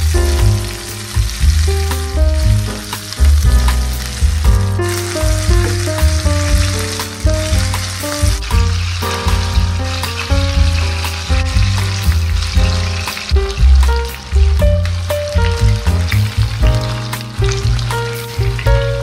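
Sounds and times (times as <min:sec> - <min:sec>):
background music with bass: 0:00.0 - 0:19.0
meat sizzling in oil: 0:00.0 - 0:19.0.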